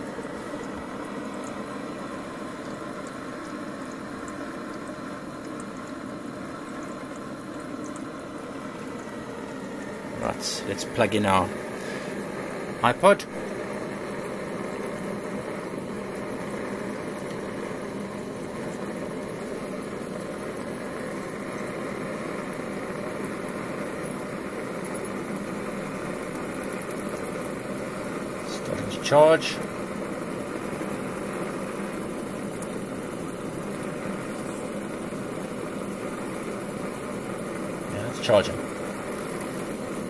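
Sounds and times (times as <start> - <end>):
engine generator running: 0.0 - 40.0.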